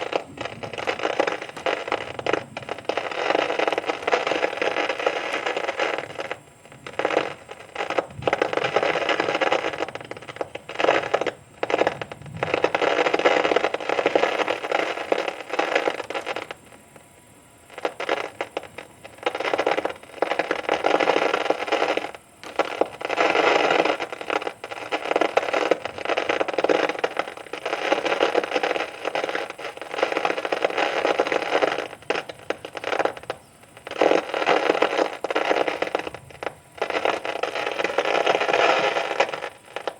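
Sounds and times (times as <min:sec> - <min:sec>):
thunderstorm rushing hiss: 0:00.0 - 0:39.9.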